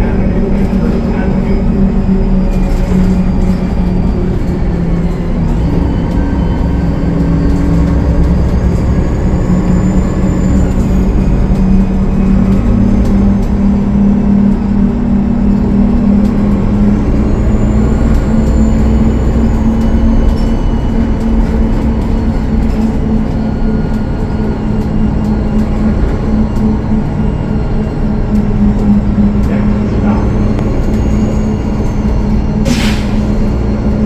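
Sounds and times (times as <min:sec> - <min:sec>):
bus diesel engine drone: 0:00.0 - 0:34.0.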